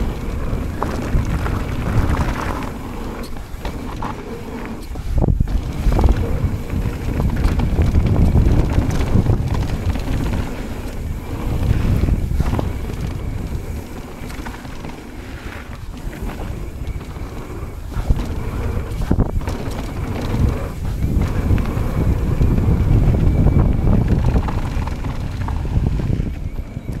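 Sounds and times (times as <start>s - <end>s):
bike knocking over bumps: 0.0s - 26.1s
bike tyres rolling on gravel: 0.0s - 27.0s
wind buffeting microphone: 0.0s - 27.0s.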